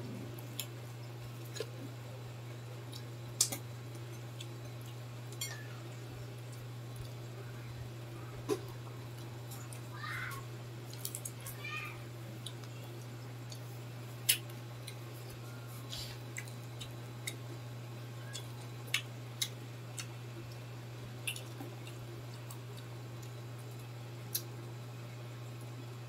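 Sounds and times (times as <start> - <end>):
steady low hum: 0.0 - 26.0
chewing crispy fried food: 0.1 - 26.0.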